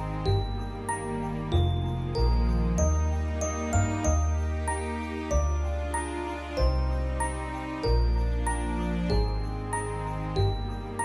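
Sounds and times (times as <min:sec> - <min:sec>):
instrumental christmas music: 0:00.0 - 0:11.0.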